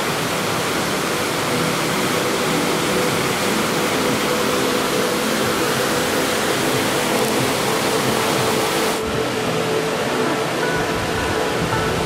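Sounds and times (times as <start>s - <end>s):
rushing water feature: 0.0s - 12.0s.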